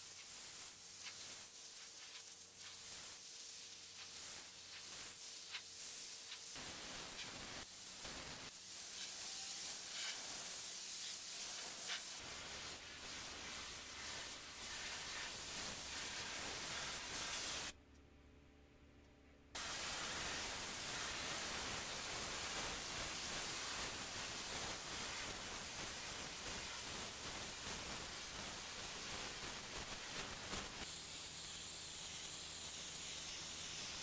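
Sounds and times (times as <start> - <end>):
pressure washer spray hissing: 0.0 - 17.7, 19.6 - 34.0.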